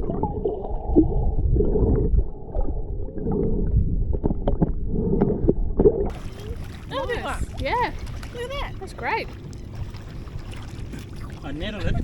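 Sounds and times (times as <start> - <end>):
muffled underwater rushing water: 0.0 - 12.0.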